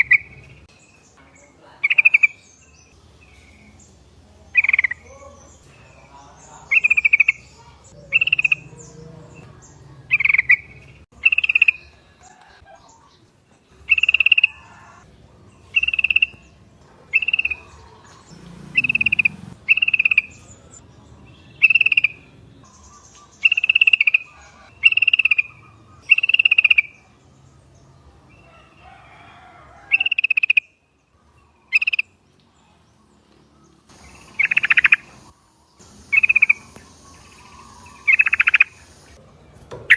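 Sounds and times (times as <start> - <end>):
bulbuls bubbling calls: 4.4 - 27.3, 29.1 - 39.2.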